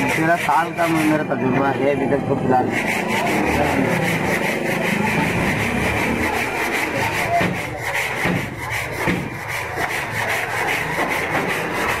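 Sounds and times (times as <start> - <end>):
rubbing strokes on steel panel: 0.0 - 12.0.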